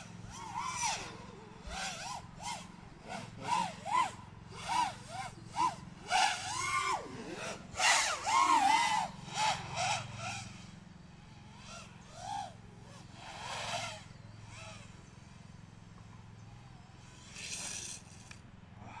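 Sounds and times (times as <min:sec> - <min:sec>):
drone motors whining: 0:00.0 - 0:19.0
steady low hum: 0:00.0 - 0:19.0.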